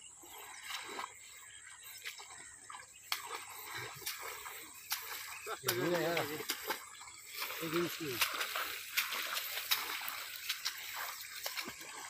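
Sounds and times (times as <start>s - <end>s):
footsteps through tall grass: 1.9s - 12.0s.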